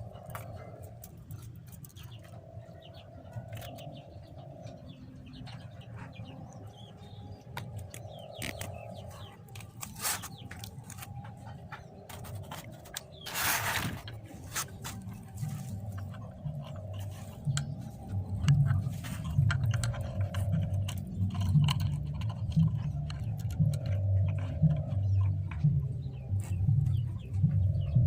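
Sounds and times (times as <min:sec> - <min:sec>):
small bird chirping: 0:00.0 - 0:28.0.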